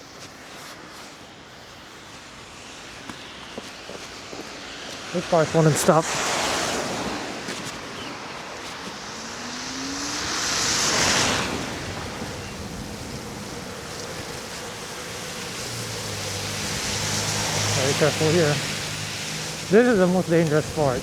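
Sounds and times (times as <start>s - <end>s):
car tyres hissing on wet road: 0.0s - 21.0s
wind rushing on microphone: 2.3s - 21.0s.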